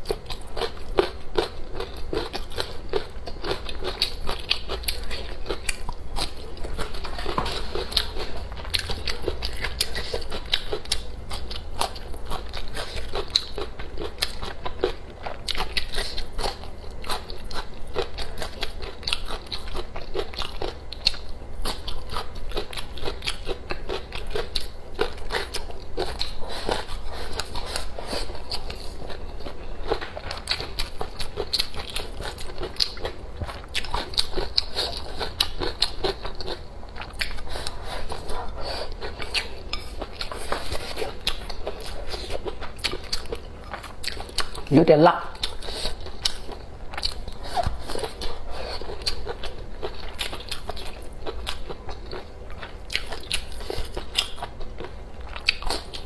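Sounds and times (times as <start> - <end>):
person chewing food: 0.0 - 44.7, 45.3 - 56.0.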